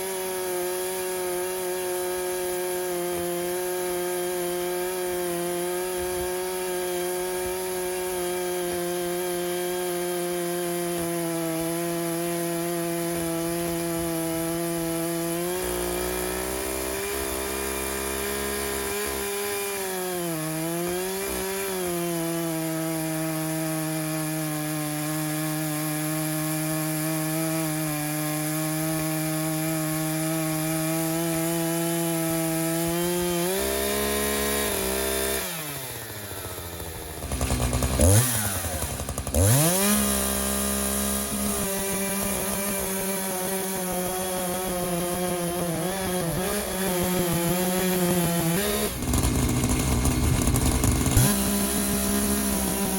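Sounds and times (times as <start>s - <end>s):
chainsaw cutting log: 0.0s - 52.9s.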